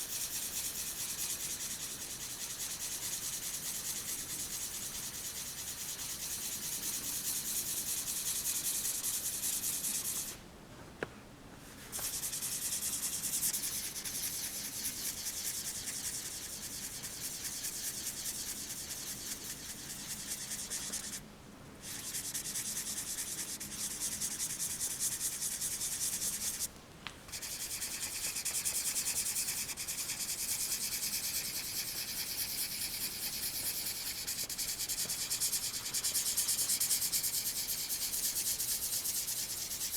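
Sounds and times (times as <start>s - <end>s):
pencil scratching on paper: 0.0s - 10.4s, 11.9s - 21.2s, 21.8s - 26.7s, 27.3s - 39.9s.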